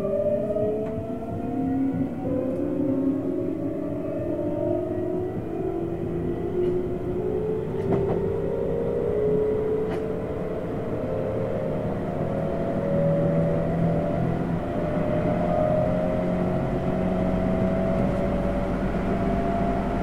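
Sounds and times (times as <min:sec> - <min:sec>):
train running rumble: 0:00.6 - 0:20.0.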